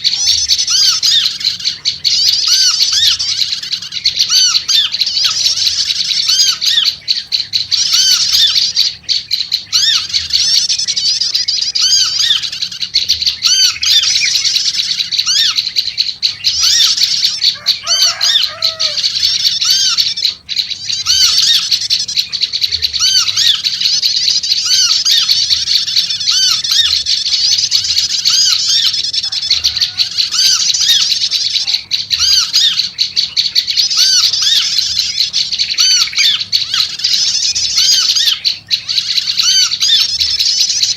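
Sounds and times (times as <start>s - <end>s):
low warbling bird call: 0.0s - 40.9s.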